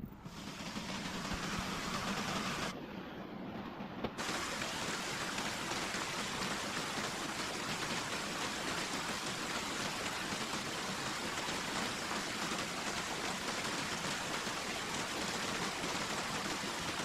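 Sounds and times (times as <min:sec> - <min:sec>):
water hissing: 0:00.3 - 0:02.7, 0:04.2 - 0:17.0.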